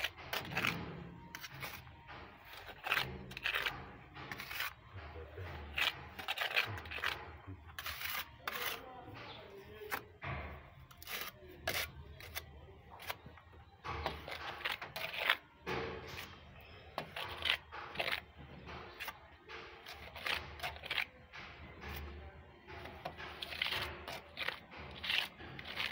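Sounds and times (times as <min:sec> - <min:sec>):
paint scraping on rough wall: 0:00.0 - 0:25.9.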